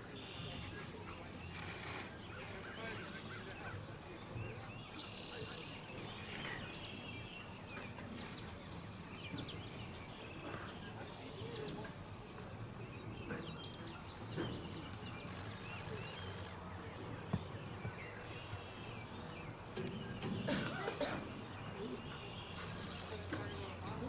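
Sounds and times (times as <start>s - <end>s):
birds chirping: 0.0s - 24.0s
outdoor background noise: 0.0s - 24.0s.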